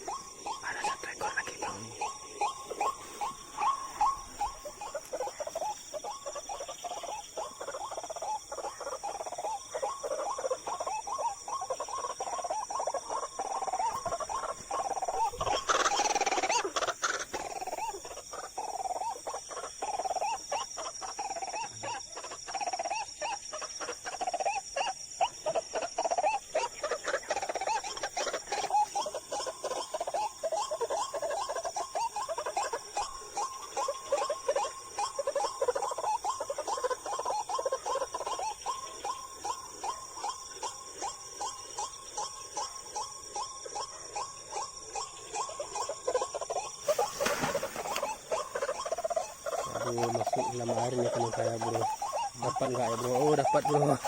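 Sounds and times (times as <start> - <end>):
high insect drone: 0.0 - 54.0
repeated animal calls: 0.0 - 54.0.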